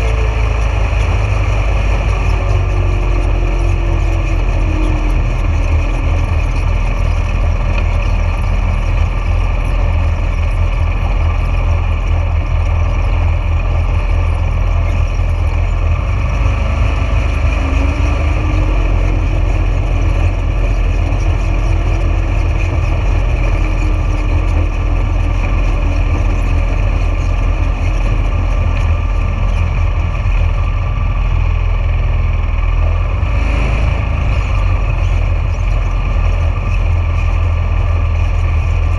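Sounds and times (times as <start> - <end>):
vehicle engine low rumble: 0.0 - 38.9.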